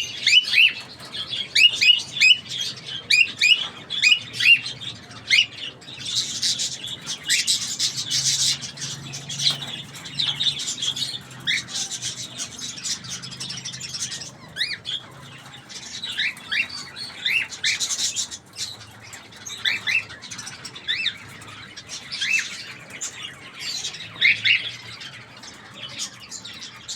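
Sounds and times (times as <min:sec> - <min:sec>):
cockatiels chirping: 0:00.0 - 0:26.9
scratchy bird chatter: 0:00.0 - 0:26.9.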